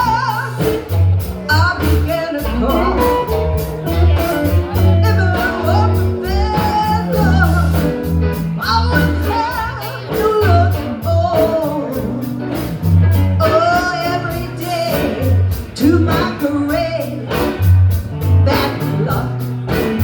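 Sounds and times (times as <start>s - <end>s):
bass: 0.0s - 20.0s
drums on cymbals: 0.0s - 20.0s.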